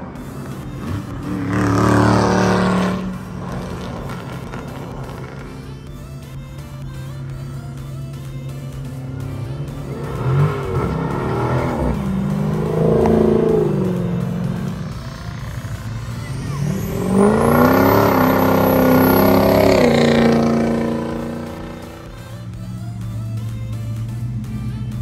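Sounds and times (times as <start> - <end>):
car passing: 0.0 - 22.7
pickup truck accelerating by: 0.0 - 25.0.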